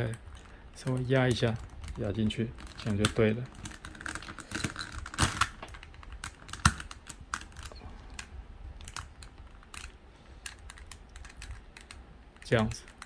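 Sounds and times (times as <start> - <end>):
plastic puzzle pieces clicking: 0.0 - 13.0.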